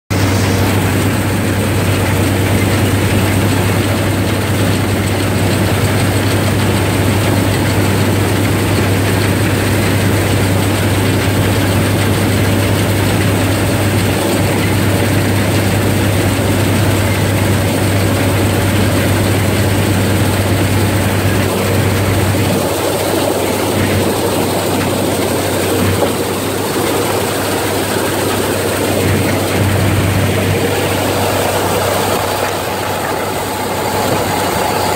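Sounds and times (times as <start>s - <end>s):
combine harvester drone: 0.1s - 34.9s.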